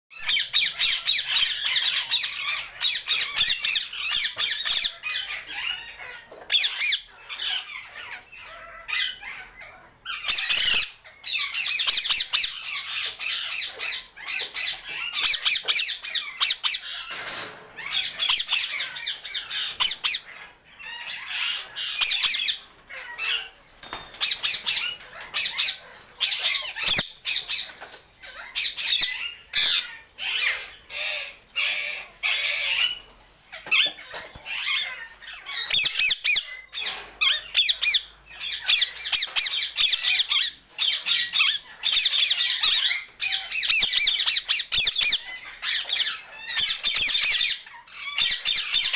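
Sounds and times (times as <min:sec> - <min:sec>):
parakeets squawking: 0:00.2 - 0:48.9.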